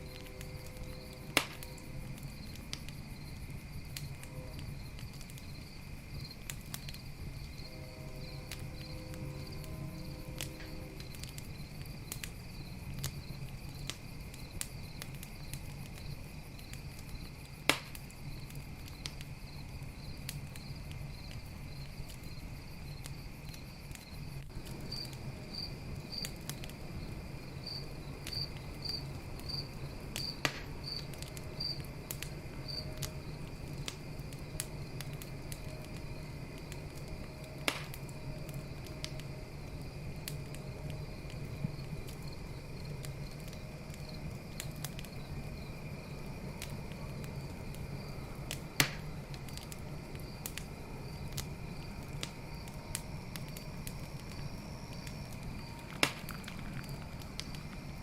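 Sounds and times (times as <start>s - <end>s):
campfire crackling: 0.0s - 58.0s
crickets chirping: 0.0s - 58.0s
loud fire pops: 0.0s - 58.0s
low rumble of fire: 0.0s - 58.0s.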